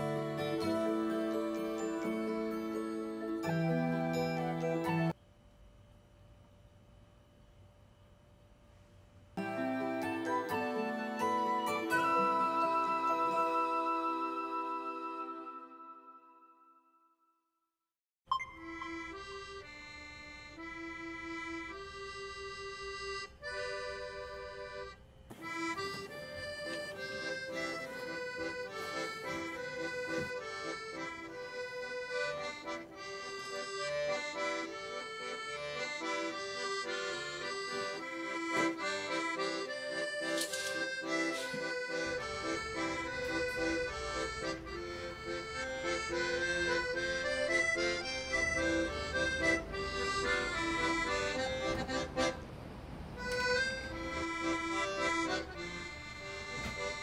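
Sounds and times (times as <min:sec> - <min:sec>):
instrumental background music: 0:00.0 - 0:05.2, 0:09.4 - 0:16.8, 0:18.3 - 0:52.3.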